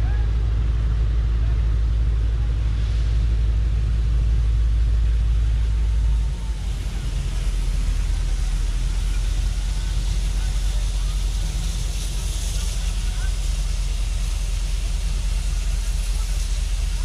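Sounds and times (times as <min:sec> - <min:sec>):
train locomotive rumble: 0:00.0 - 0:17.0.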